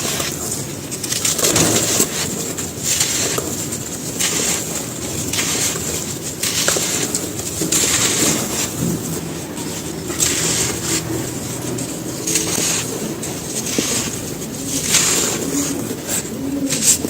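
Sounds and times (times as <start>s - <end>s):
gritty crunching of crumbled cement: 0.0s - 17.0s.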